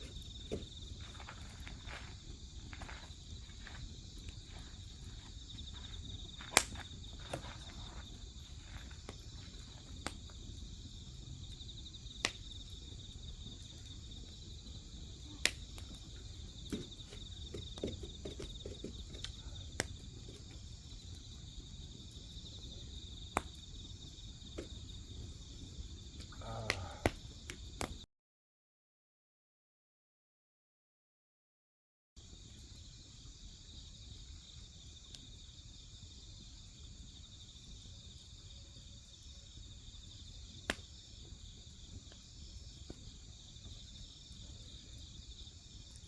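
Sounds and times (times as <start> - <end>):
insects trilling: 0.0 - 28.0, 32.2 - 46.0
wood fire crackling: 0.0 - 28.0, 32.2 - 46.0.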